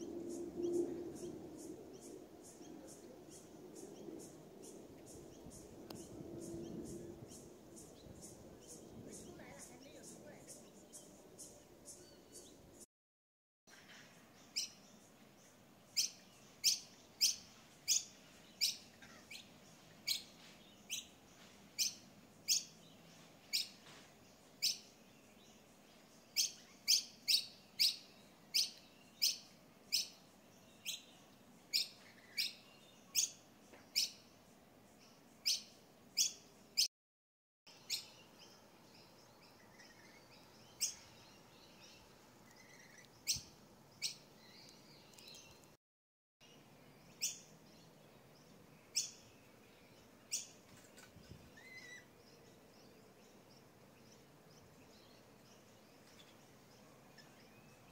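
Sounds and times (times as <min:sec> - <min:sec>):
bird chirping: 0:00.0 - 0:12.8, 0:13.7 - 0:36.9, 0:37.7 - 0:45.8, 0:46.4 - 0:57.9.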